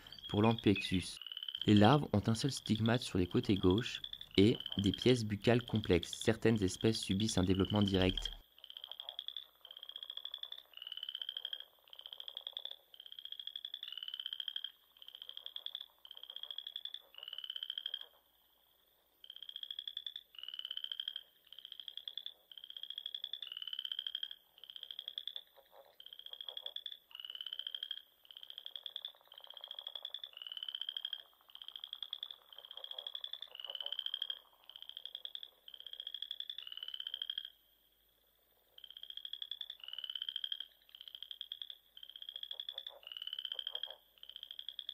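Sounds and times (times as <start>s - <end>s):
frog chirping: 0.0s - 44.9s.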